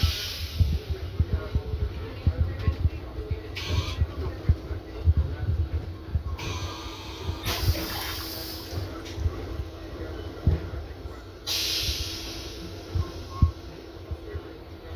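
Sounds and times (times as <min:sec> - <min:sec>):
train interior hum: 0:00.0 - 0:14.9.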